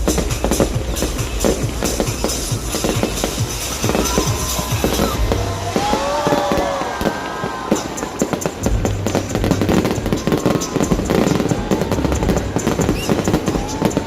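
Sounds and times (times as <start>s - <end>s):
fireworks popping and crackling: 0.0s - 14.0s
music playing: 0.0s - 14.0s.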